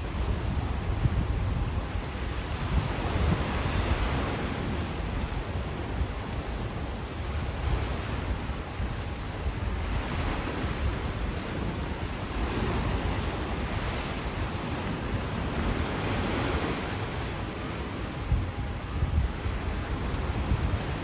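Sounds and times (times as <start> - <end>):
small waves washing ashore: 0.0 - 21.0
wind rumbling on microphone: 0.0 - 21.0.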